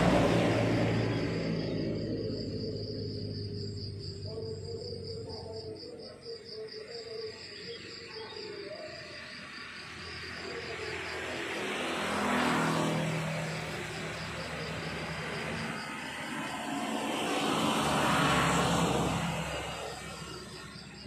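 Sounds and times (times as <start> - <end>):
vehicle passing: 0.0 - 5.5, 9.2 - 21.0
crickets chirping: 0.0 - 21.0.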